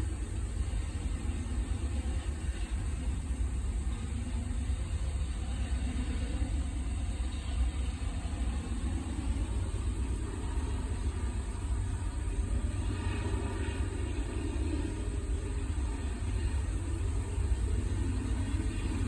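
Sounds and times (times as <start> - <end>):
diesel locomotives rumbling: 0.0 - 19.0.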